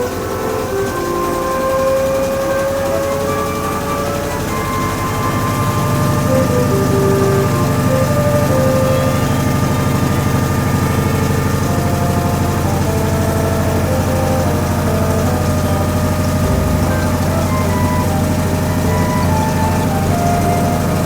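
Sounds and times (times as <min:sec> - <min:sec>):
washing machine motor hum: 0:00.0 - 0:21.0
held tones stepping in pitch: 0:02.0 - 0:21.0.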